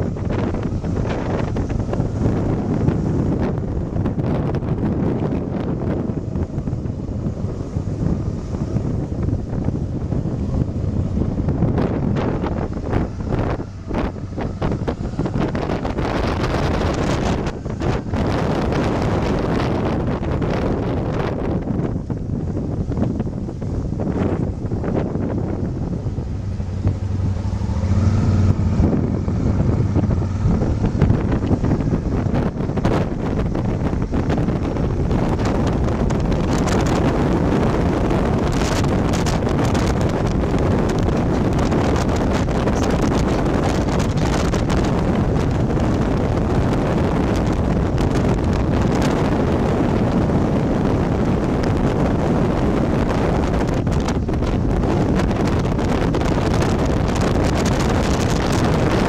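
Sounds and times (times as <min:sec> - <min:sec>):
low engine hum: 0:00.0 - 0:59.0
wind rushing over microphone: 0:00.0 - 0:59.0.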